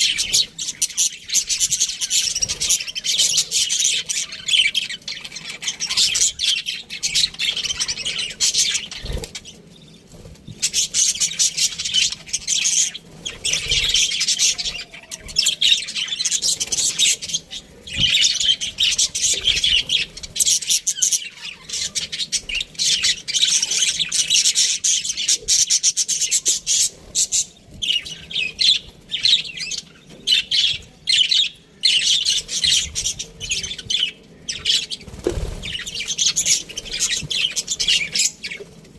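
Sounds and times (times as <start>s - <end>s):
budgerigars chirping and chattering: 0.0s - 38.8s.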